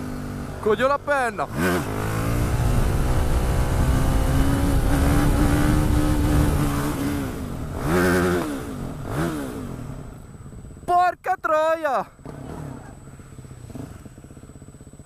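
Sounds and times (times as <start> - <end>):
motorbike engine revving: 0.0 - 10.9, 12.1 - 15.0.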